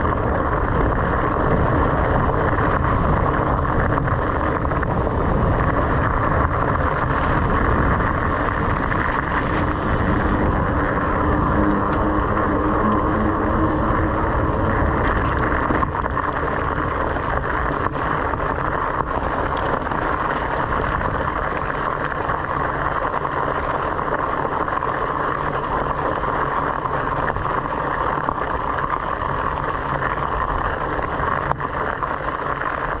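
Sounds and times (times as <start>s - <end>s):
bicycle tyres rolling on gravel: 0.0s - 33.0s
wind rushing over microphone: 0.0s - 33.0s.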